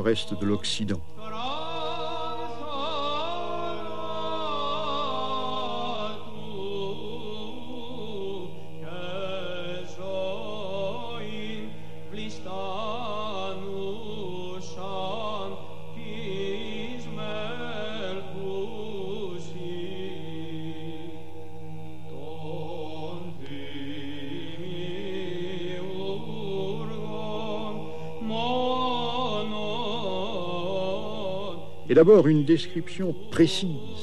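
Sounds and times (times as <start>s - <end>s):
low held drone: 0.0s - 34.0s
person chanting: 0.0s - 34.0s.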